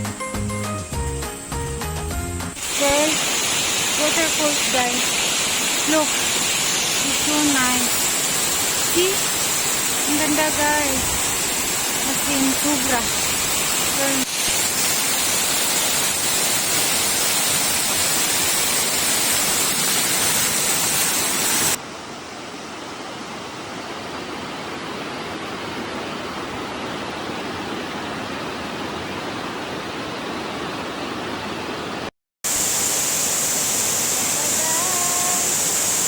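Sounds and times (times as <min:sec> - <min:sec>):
waterfall roaring: 0:02.6 - 0:36.0.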